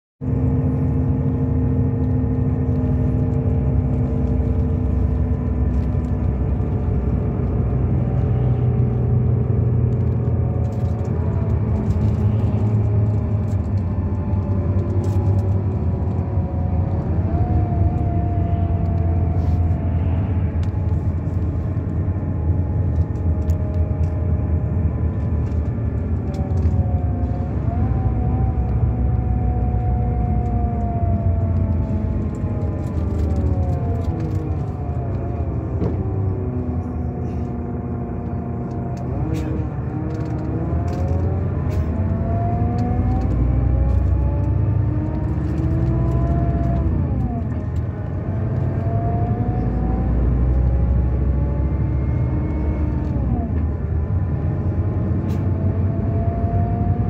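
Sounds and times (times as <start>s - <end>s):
engine tones shifting pitch: 0.2s - 57.0s
vehicle engine and tyre rumble: 0.2s - 57.0s.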